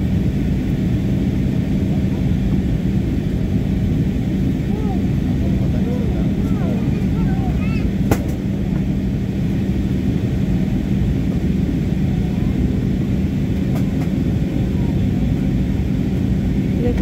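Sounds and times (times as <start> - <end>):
constant low hum: 0.0 - 17.0
jet engine rumble and rushing air: 0.0 - 17.0.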